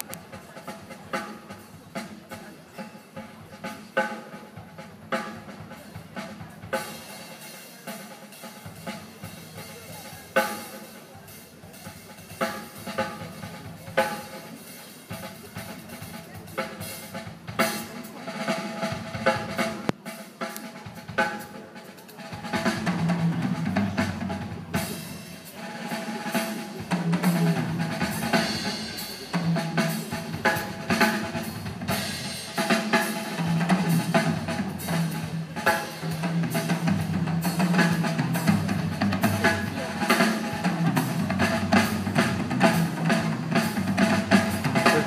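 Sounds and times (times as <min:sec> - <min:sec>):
drum kit solo: 0:00.0 - 0:45.0.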